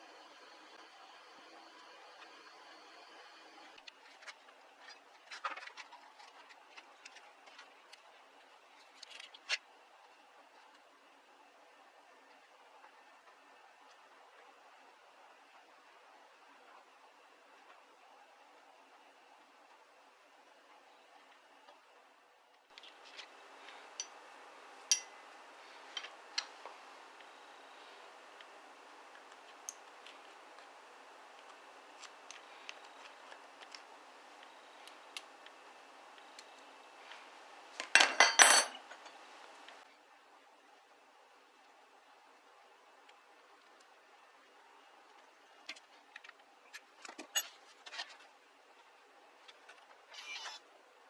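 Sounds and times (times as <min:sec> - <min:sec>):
faint steady hiss: 0:00.0 - 0:51.0.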